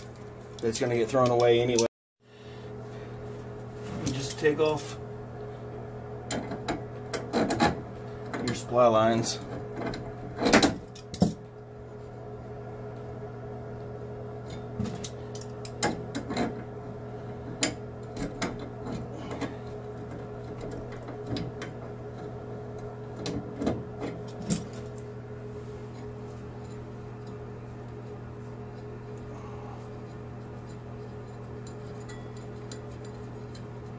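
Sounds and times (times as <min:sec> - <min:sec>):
steady hum: 0:00.0 - 0:33.9.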